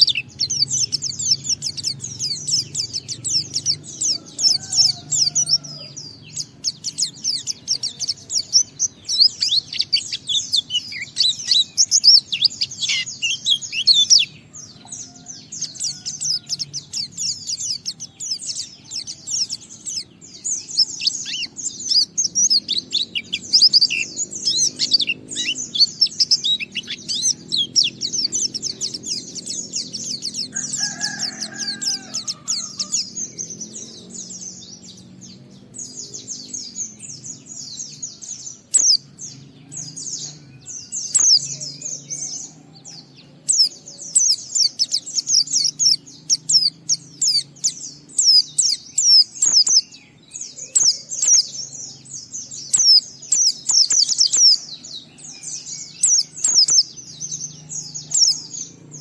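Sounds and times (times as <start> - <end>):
bird singing high twittering notes: 0.0 - 59.0.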